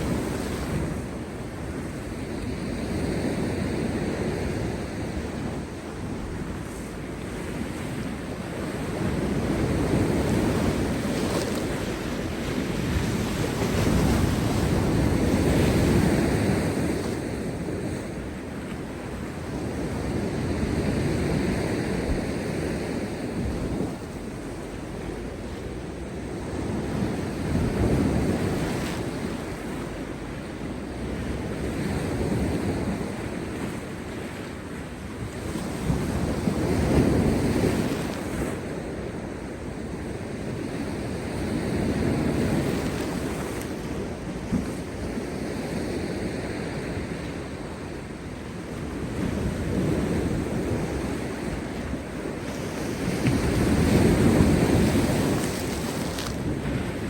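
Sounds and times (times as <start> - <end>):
waves crashing on rocks: 0.0 - 57.0
wind buffeting microphone: 0.0 - 57.0.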